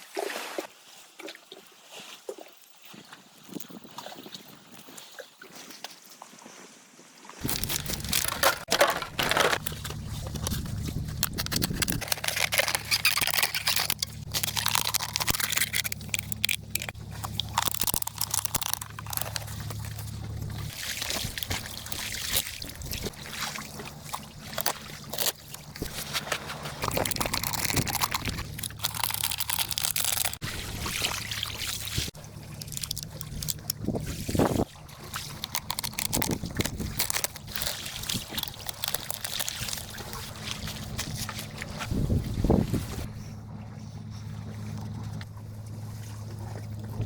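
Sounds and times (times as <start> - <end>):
water sloshing and splashing: 0.0 - 47.0.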